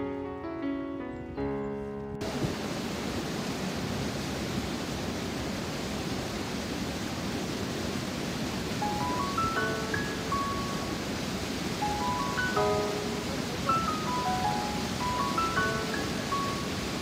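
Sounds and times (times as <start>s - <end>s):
river water rushing: 2.2s - 17.0s.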